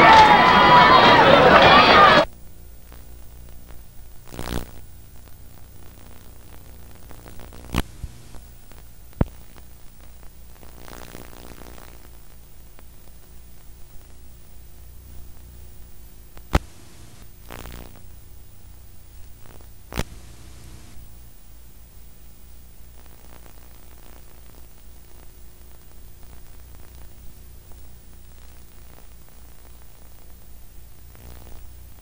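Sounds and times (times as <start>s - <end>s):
crackly bursts: 0.0s - 32.0s
tape hiss: 0.0s - 32.0s
low electrical hum: 2.0s - 32.0s.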